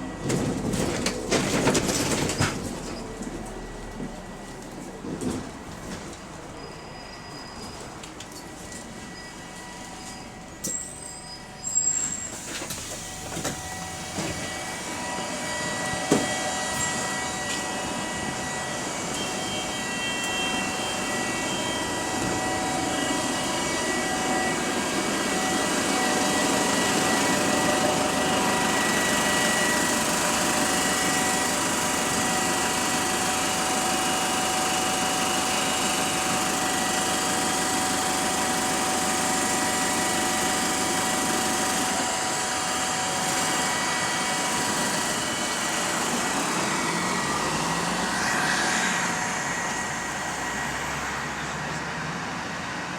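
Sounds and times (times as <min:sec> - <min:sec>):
bus whine of high tones: 0:00.0 - 0:52.9
mechanical and road noise: 0:00.0 - 0:52.9.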